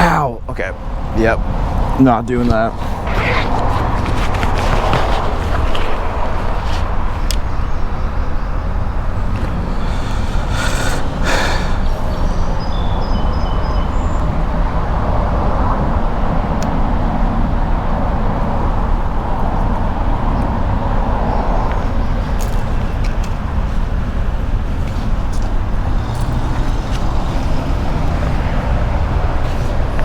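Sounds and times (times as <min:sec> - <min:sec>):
highway traffic rumble: 0:00.0 - 0:30.0.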